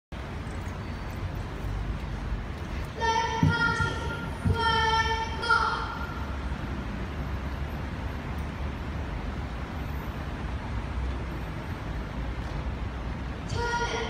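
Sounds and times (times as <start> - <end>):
low rumble of traffic: 0.1 - 14.0.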